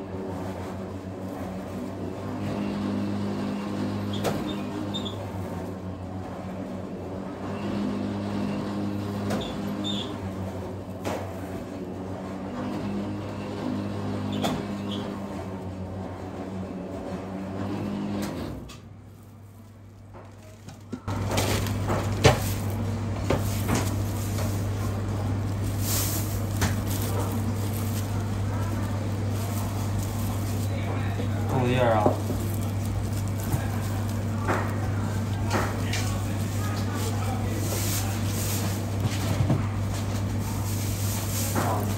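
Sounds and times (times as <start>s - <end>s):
low machine hum: 0.0s - 41.9s.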